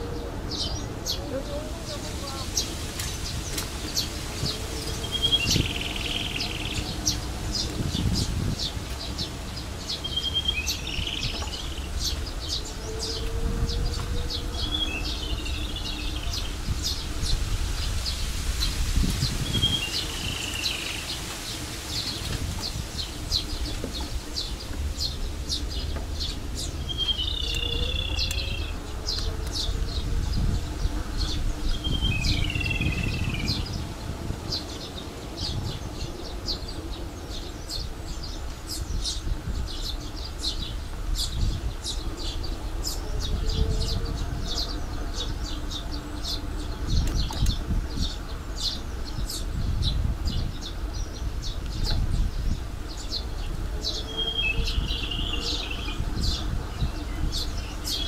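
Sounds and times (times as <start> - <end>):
warbled bird calls: 0.0 - 49.5
birds chirping: 0.0 - 58.0
wind and bicycle tyres rumbling: 0.0 - 58.0.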